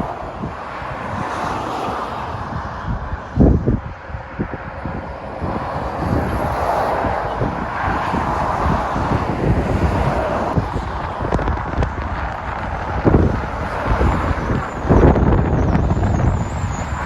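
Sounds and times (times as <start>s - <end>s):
louder vehicles passing: 0.0s - 17.0s
motorway traffic rumble: 0.0s - 17.0s
wind on microphone: 0.0s - 17.0s.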